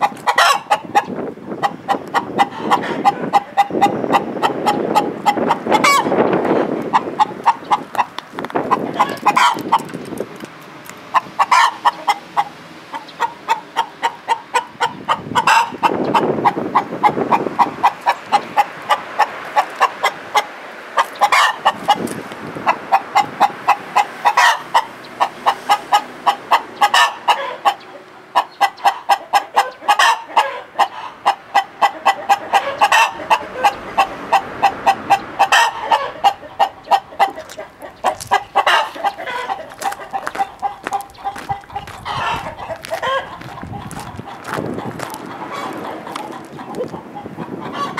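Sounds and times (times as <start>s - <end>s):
hens cackling: 0.0s - 47.9s.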